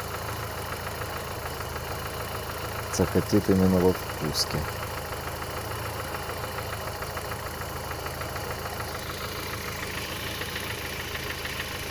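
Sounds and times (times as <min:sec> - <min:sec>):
car engine idling: 0:00.0 - 0:11.9
fast ticking clatter: 0:00.0 - 0:11.9.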